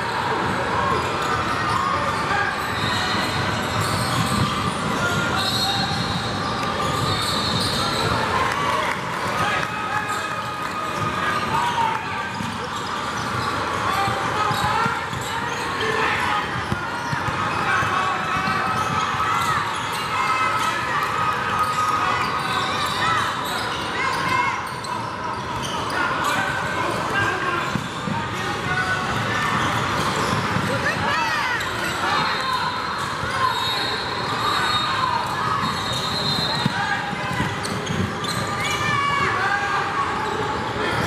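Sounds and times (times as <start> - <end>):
crowd chatter: 0.0 - 41.0
sneaker squeaks: 0.0 - 41.0
spectators' voices in gym: 0.0 - 41.0.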